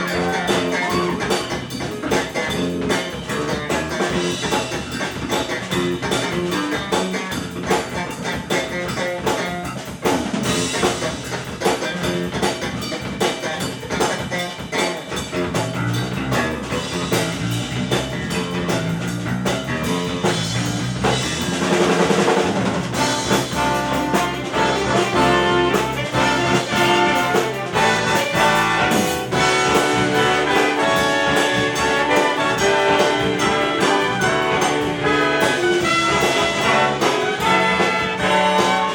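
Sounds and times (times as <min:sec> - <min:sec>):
jazz-funk big band playing: 0:00.0 - 0:38.9.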